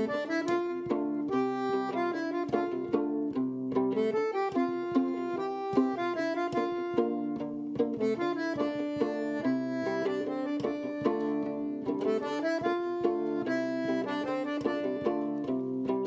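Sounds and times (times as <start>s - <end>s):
held chords: 0.0s - 16.0s
short plucked notes: 0.0s - 16.0s.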